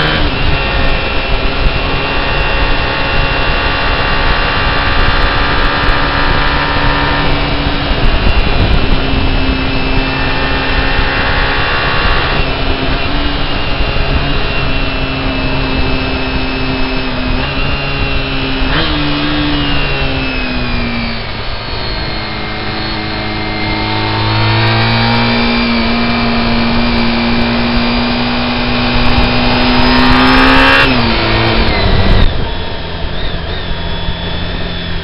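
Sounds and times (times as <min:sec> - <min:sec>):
vehicle engine running: 0:00.0 - 0:35.0
wind noise: 0:00.0 - 0:35.0.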